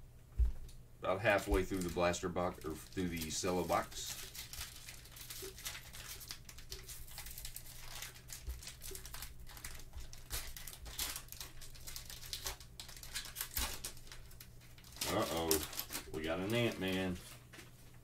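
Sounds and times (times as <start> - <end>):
plastic wrapper crinkling and tearing: 1.3 - 17.7.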